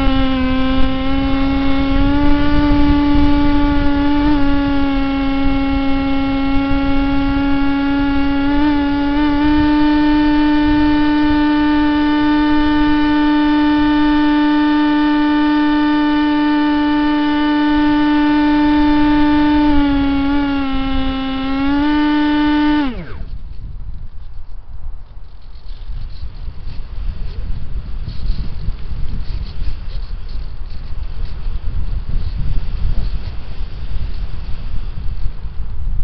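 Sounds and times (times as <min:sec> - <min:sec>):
model plane motor whine: 0:00.0 - 0:24.5, 0:25.2 - 0:36.0
wind rumble on microphone: 0:00.0 - 0:36.0.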